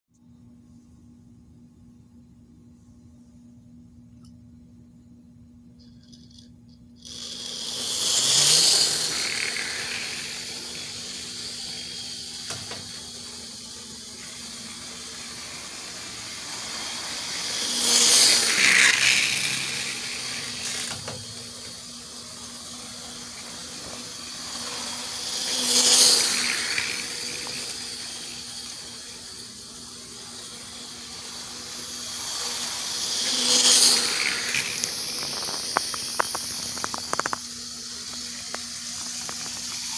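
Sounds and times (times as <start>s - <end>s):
model train rattling rasp: 5.9s - 39.9s
motor hum: 5.9s - 39.9s.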